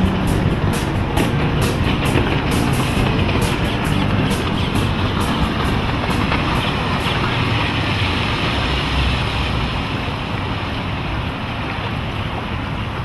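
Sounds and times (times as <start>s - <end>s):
outboard motors running: 0.0s - 13.0s
water rushing from hull: 0.0s - 13.0s
wind noise: 0.0s - 13.0s.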